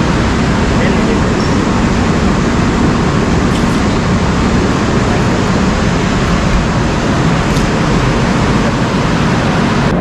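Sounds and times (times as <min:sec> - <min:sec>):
railway station platform noise: 0:00.0 - 0:10.0.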